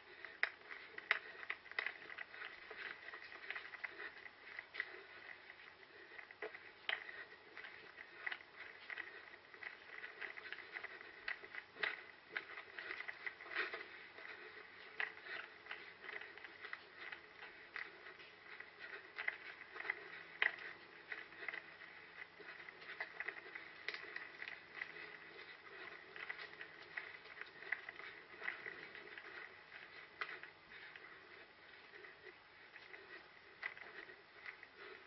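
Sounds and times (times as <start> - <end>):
running footsteps on rough ground: 0.0 - 35.0.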